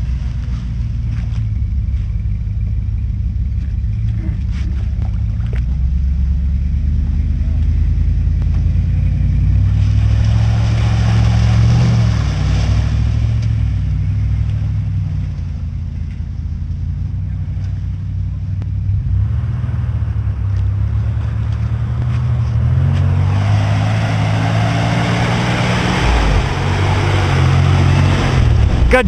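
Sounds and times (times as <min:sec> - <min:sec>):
vehicle engine revving under load: 0:00.0 - 0:29.0.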